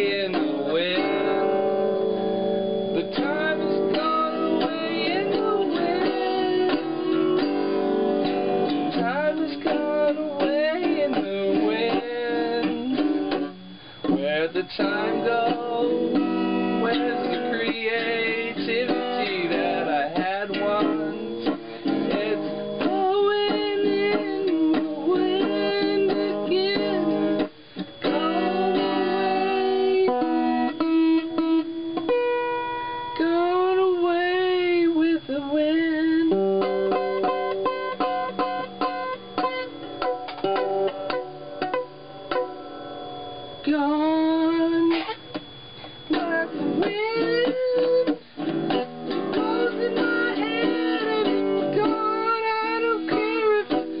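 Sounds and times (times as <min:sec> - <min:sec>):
man singing: 0:00.0 - 0:01.7, 0:02.9 - 0:30.7, 0:33.2 - 0:39.0, 0:43.6 - 0:45.1, 0:46.1 - 0:54.0
acoustic guitar strumming: 0:00.0 - 0:54.0.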